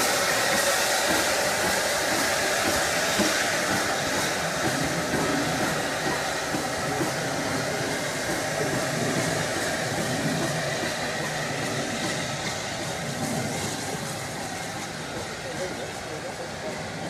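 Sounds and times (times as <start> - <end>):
steam locomotive moving slowly: 0.0 - 17.0.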